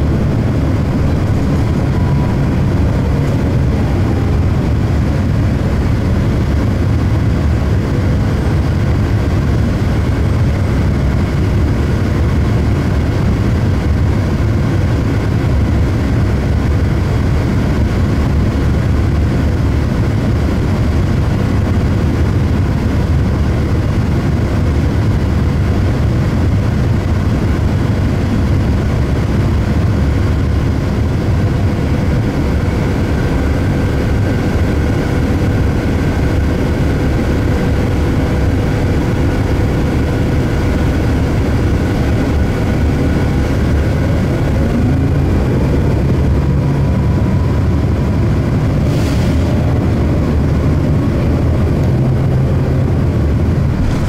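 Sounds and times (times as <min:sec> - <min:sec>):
bus engine rumbling: 0:00.0 - 0:54.0
faint steady whine: 0:00.0 - 0:54.0.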